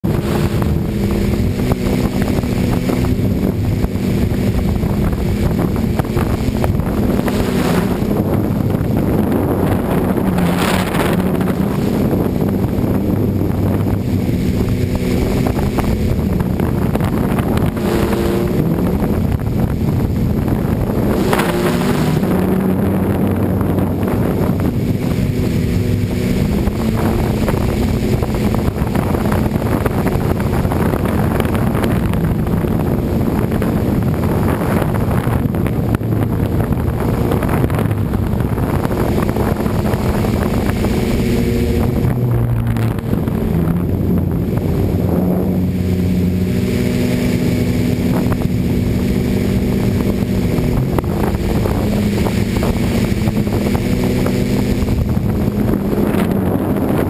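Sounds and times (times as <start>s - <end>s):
quadcopter propellers whirring: 0.0s - 57.0s.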